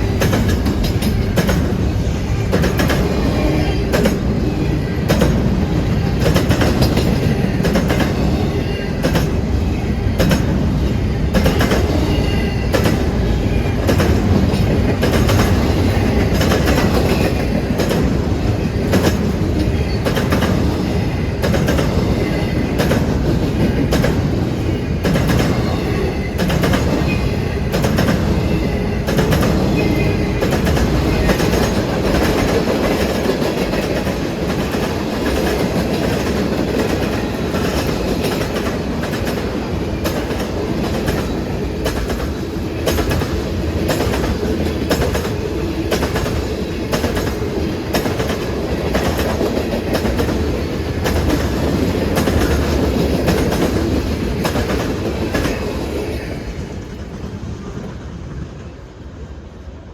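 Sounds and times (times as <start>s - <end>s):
train wheels clicking over rail joints: 0.0s - 57.4s.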